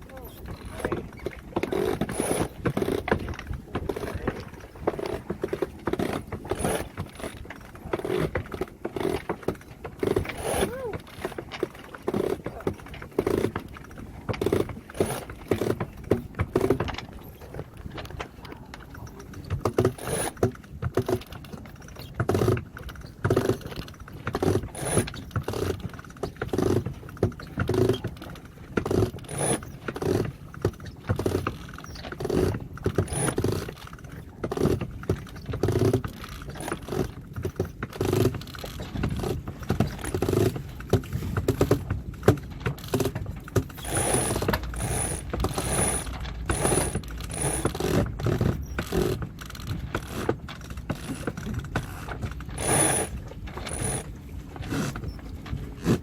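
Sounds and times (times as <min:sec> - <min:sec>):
winch ratcheting: 0:00.0 - 0:56.0.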